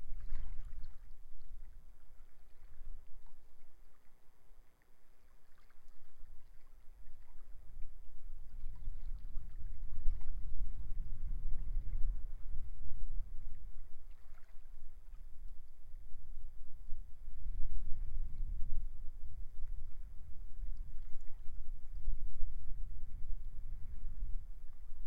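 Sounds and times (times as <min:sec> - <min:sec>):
wind buffeting microphone: 0:00.0 - 0:01.7, 0:06.3 - 0:25.0.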